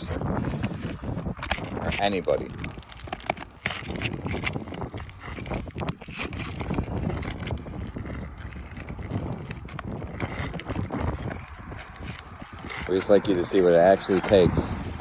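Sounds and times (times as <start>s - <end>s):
roof shingles scraped by tool: 0.0s - 15.0s
wind rumbling on microphone: 0.0s - 15.0s.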